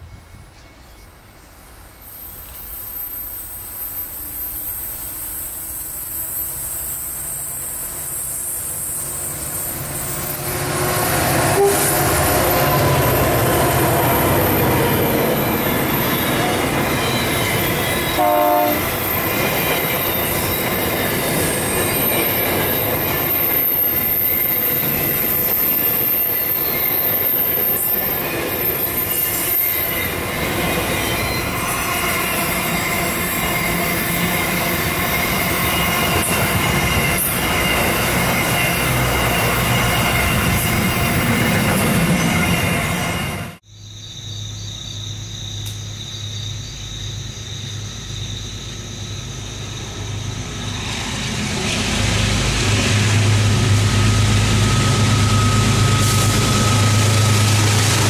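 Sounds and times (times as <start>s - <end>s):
freight train passing: 0.0s - 43.6s, 47.2s - 58.0s
high wheel squeal: 2.0s - 43.6s, 49.2s - 58.0s.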